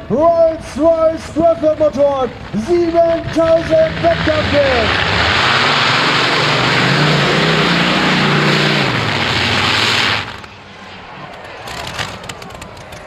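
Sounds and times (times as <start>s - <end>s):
loud tractor engines roaring: 0.0s - 13.0s.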